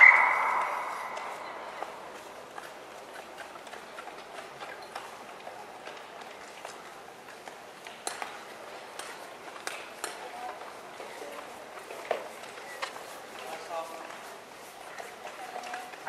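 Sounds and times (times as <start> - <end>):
background hubbub: 0.0 - 16.0.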